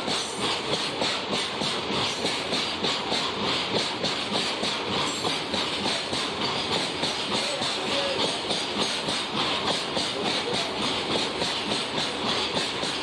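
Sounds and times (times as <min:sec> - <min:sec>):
hiss of wheels on rail: 0:00.0 - 0:13.0
wheels clattering over rail joints: 0:00.0 - 0:13.0.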